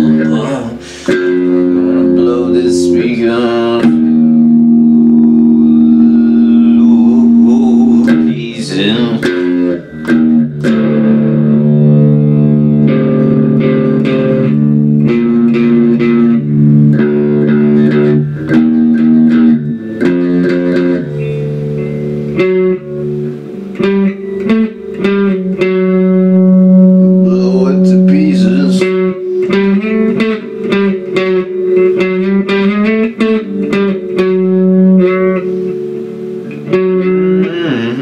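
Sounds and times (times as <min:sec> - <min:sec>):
rock guitar playing: 0:00.0 - 0:38.0.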